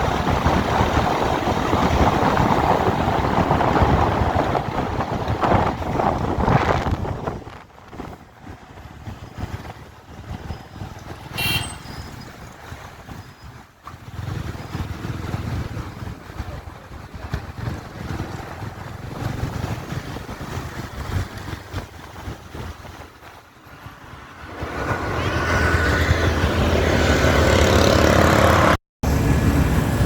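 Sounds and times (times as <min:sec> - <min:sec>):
wind buffeting microphone: 0:00.0 - 0:28.2
motorcycle engine rumble: 0:00.0 - 0:30.0.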